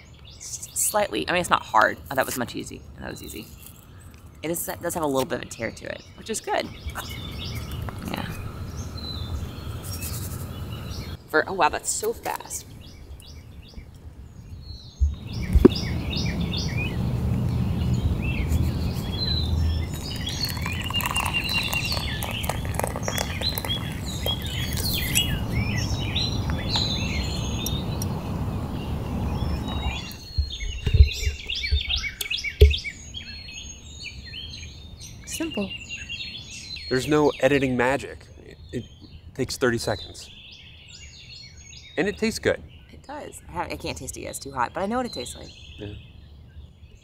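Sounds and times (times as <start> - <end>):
songbirds chirping: 0.0 - 47.0.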